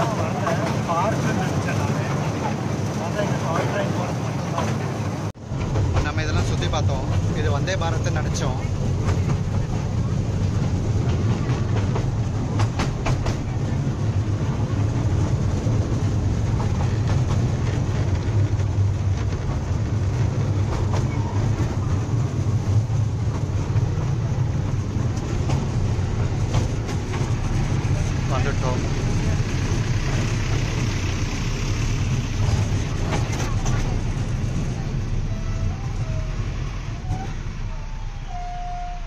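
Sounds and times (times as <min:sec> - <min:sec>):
train track clicks: 0:00.0 - 0:35.2.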